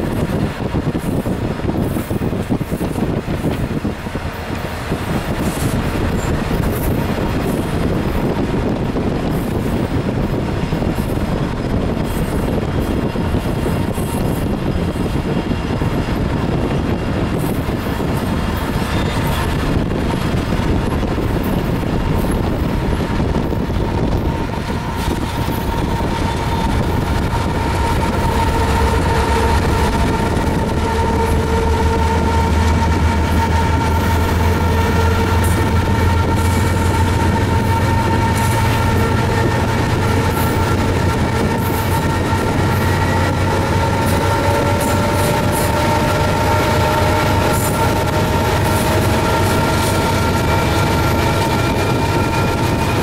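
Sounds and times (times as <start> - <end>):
freight train rumble and clatter: 0.0 - 53.0
locomotive deep drone: 0.0 - 53.0
locomotive whine: 0.0 - 53.0.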